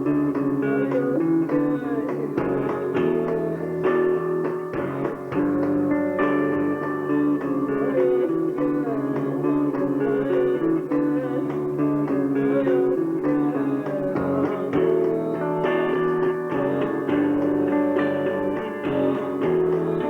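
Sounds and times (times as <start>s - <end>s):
rock band playing live: 0.0s - 20.0s.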